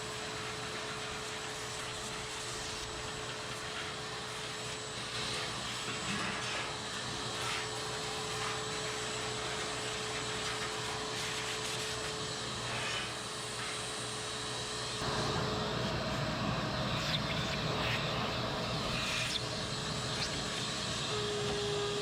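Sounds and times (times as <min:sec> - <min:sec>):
shop vac whining: 0:00.0 - 0:22.0.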